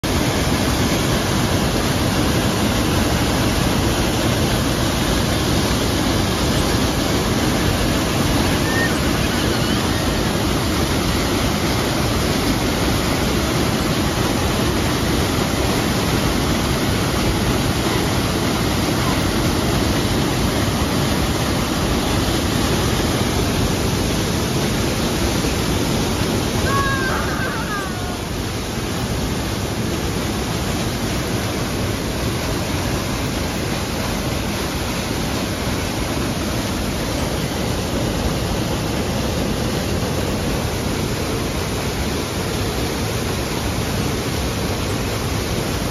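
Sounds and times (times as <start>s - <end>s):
waterfall pouring onto rocks: 0.0s - 45.9s.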